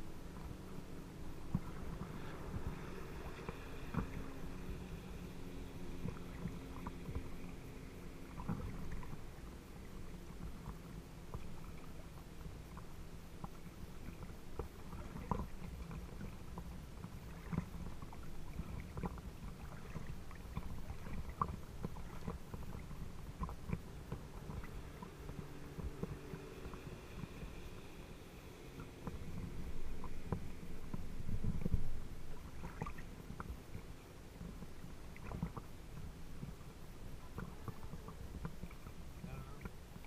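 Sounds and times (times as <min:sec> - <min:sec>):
distant motorboat engine hum: 0:00.0 - 0:40.0
waves lapping and splashing: 0:00.0 - 0:40.0.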